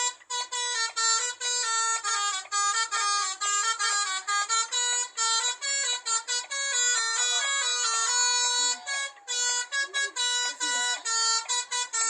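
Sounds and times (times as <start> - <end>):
bus horn playing a melody: 0.0 - 12.0.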